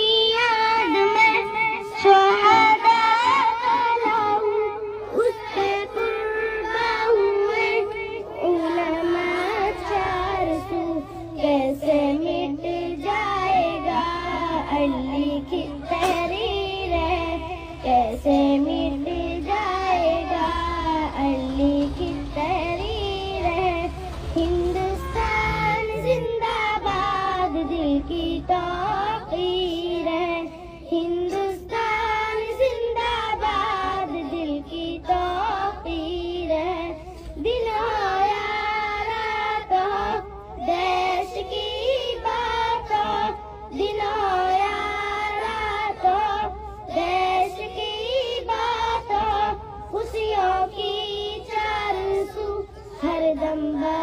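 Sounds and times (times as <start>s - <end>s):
girls singing: 0.0s - 54.0s.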